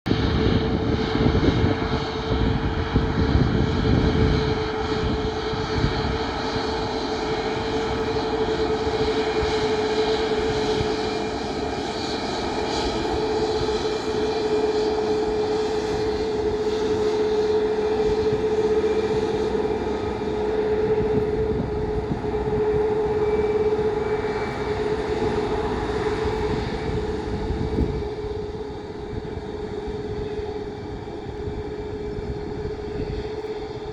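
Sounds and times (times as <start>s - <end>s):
constant engine whine: 0.0s - 33.9s
jet engines running loudly: 0.1s - 33.9s.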